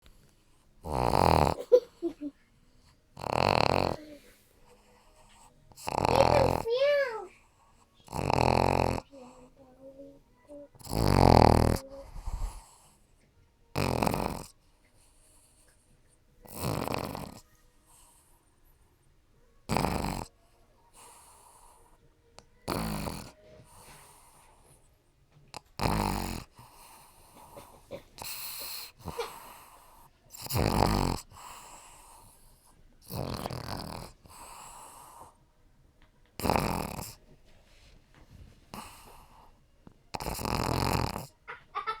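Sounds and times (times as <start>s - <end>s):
puppy snoring: 0.0s - 2.3s, 3.1s - 18.4s, 19.6s - 35.4s, 36.3s - 37.3s, 38.7s - 41.5s
faint dog breaths: 1.8s - 13.4s, 14.1s - 35.7s, 36.3s - 41.4s.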